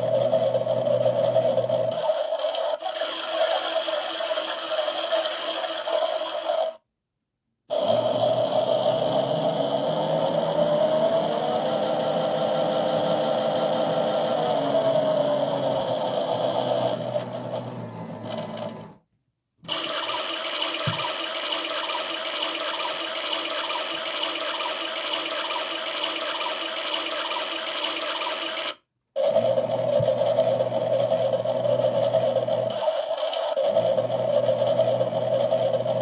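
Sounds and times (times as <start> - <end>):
washing machine running: 0.0 - 6.8, 7.7 - 19.0, 19.6 - 36.0.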